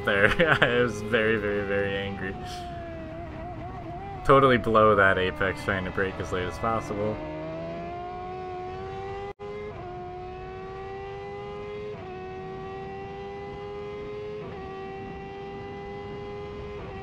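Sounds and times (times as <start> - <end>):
racing engine at full throttle: 0.0 - 17.0.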